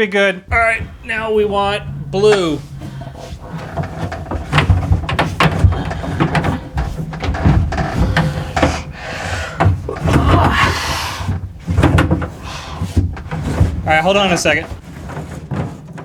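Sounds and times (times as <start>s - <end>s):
tubing scraping and knocking on wood: 0.5s - 16.0s.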